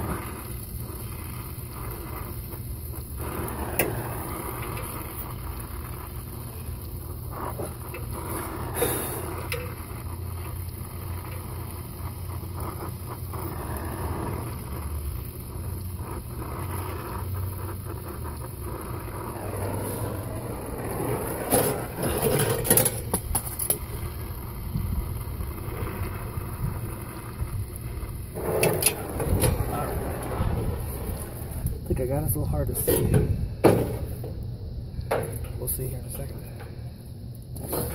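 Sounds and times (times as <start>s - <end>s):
torch flame hissing: 0.0s - 37.9s.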